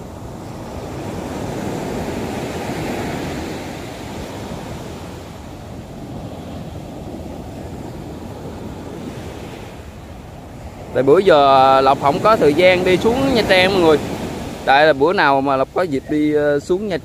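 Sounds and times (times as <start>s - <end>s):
surf breaking on beach: 0.0s - 17.0s
wind rumbling on microphone: 0.0s - 17.0s.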